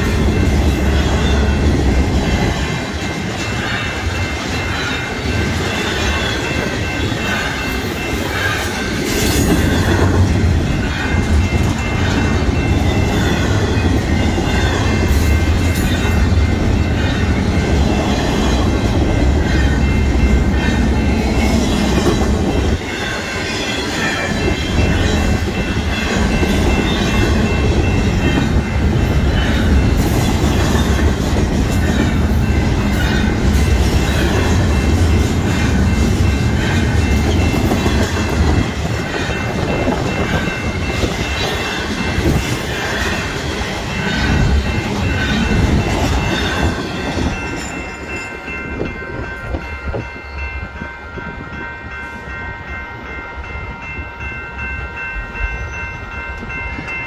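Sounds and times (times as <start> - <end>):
train wheels rumbling over rails: 0.0 - 52.0
crossing bell ringing: 0.0 - 57.0.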